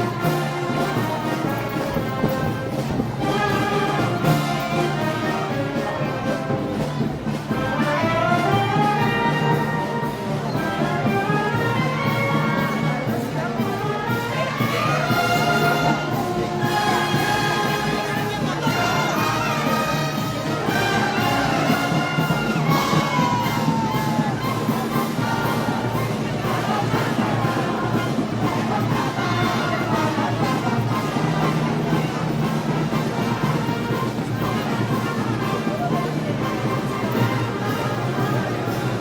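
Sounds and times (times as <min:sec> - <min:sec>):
brass band playing: 0:00.0 - 0:39.0
trumpets and trombones: 0:00.0 - 0:39.0.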